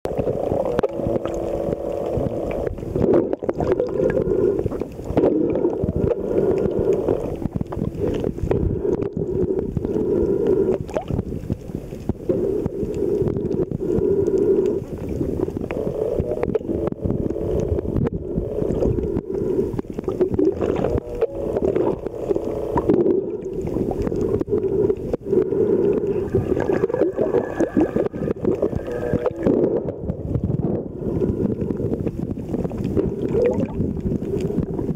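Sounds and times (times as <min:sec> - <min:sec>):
underwater water rush: 0:00.0 - 0:34.9
crackling clicks: 0:00.1 - 0:34.9.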